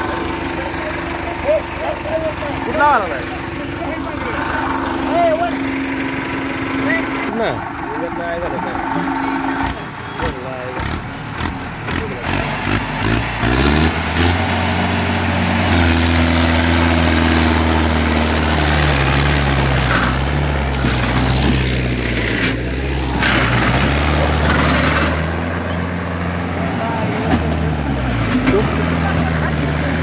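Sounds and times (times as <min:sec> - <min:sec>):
tractor diesel engine labouring: 0:00.0 - 0:30.0.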